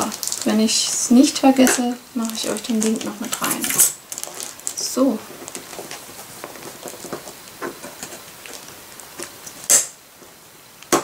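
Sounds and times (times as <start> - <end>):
plastic pockets rustling: 0.0 - 11.0.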